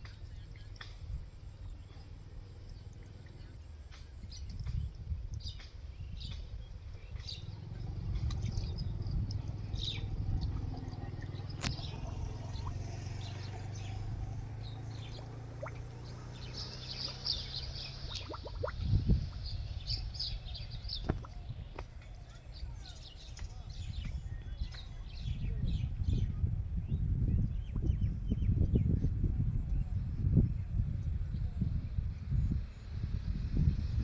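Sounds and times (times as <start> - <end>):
small birds chirping: 0.0 - 29.0
low steady rumble: 0.0 - 34.0.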